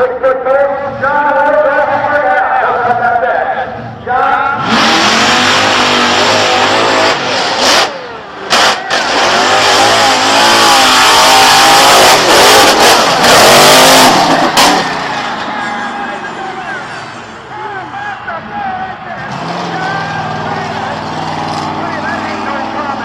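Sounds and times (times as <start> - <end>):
monster truck engine revving: 3.6 - 17.9, 18.9 - 23.0.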